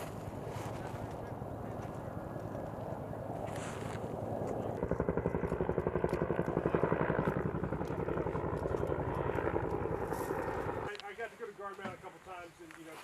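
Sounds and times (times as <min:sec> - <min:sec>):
engine running with fast pulse: 0:00.0 - 0:11.0.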